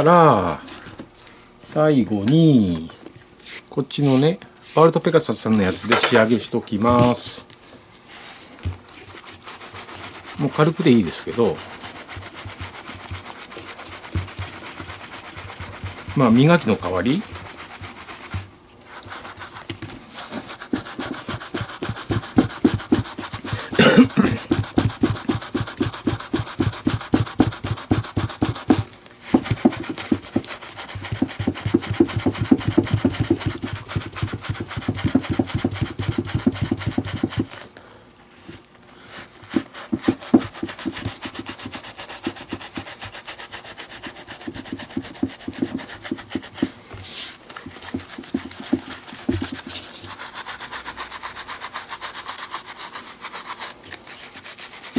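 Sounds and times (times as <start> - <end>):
rubbing strokes on leather glove: 3.4 - 5.0, 8.0 - 37.6, 38.3 - 54.9.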